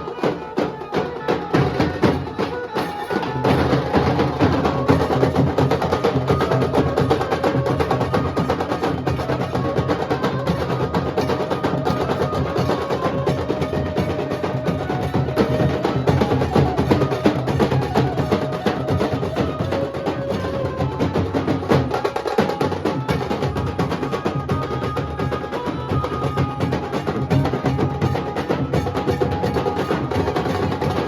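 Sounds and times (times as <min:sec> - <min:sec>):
dhol and tasha drumming: 0:00.0 - 0:31.0.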